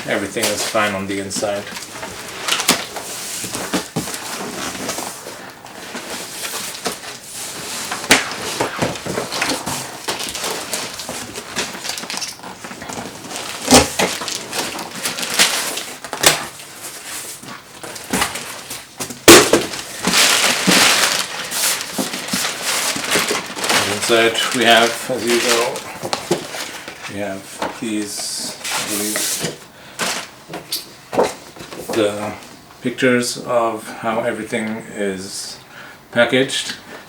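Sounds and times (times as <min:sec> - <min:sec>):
cardboard box rustling and crinkling: 0:00.4 - 0:30.3.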